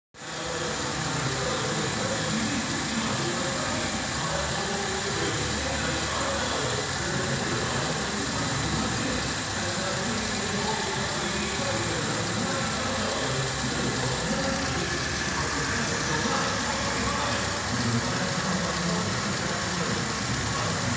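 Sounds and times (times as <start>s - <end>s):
car engine idling: 0.2s - 20.9s.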